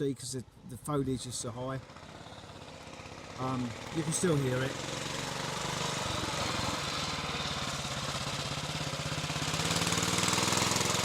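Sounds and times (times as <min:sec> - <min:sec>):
motorcycle engine running: 0:01.1 - 0:11.0.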